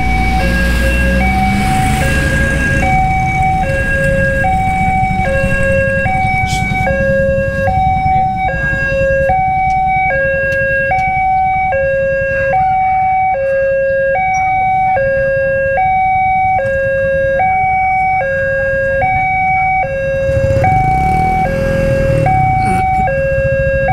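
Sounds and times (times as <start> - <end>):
two-tone electronic crossing alarm: 0.0 - 23.9.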